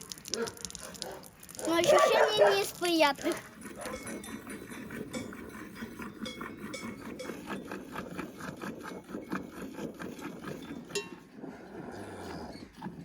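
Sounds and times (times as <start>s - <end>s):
milk squirting into pail: 0.0s - 11.4s.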